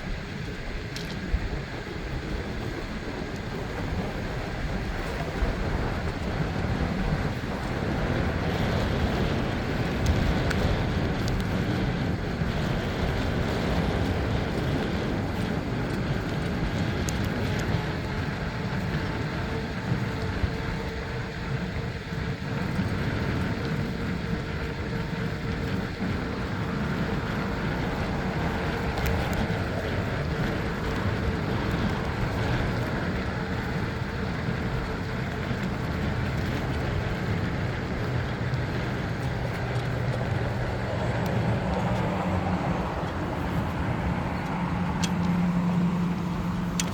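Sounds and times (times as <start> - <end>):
bicycle road noise: 0.0 - 46.9
wind rumble on microphone: 0.0 - 46.9.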